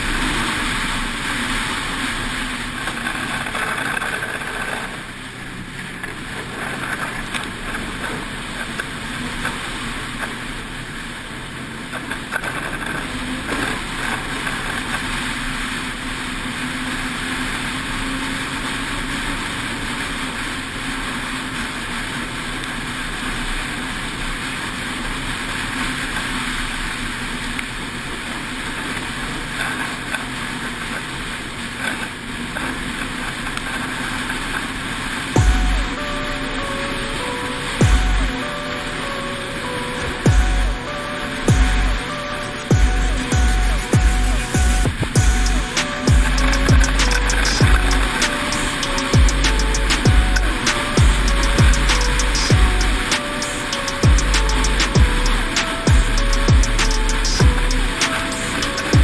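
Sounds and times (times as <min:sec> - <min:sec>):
snowmobile engine running: 0:00.0 - 0:59.0
snowmobile track rushing over snow: 0:00.0 - 0:59.0.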